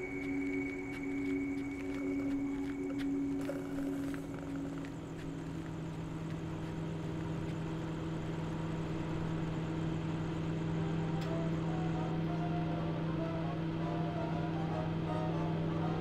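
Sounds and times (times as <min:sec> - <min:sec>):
low droning film underscore: 0:00.0 - 0:16.0.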